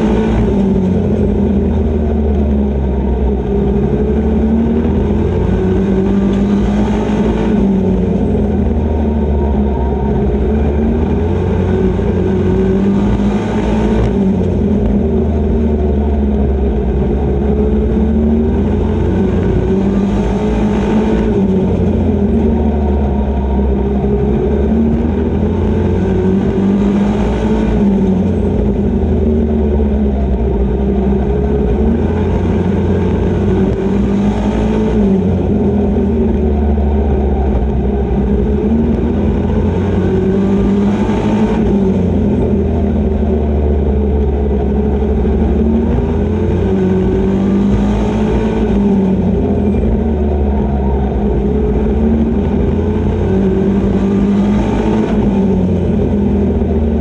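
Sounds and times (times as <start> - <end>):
race truck engine: 0.0 - 57.0.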